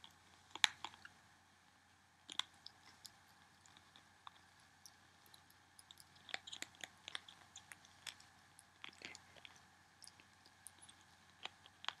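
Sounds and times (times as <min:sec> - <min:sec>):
ferret licking and chewing: 0:00.0 - 0:01.1, 0:02.2 - 0:12.0.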